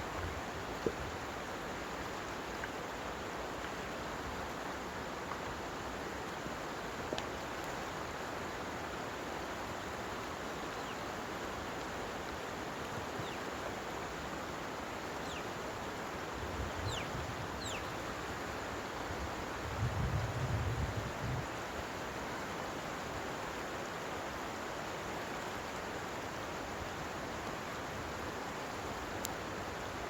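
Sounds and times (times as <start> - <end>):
rushing outdoor noise: 0.0 - 30.0.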